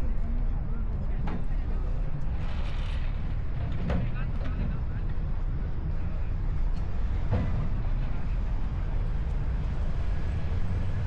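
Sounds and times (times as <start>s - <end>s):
city ambience rumble: 0.0s - 11.0s.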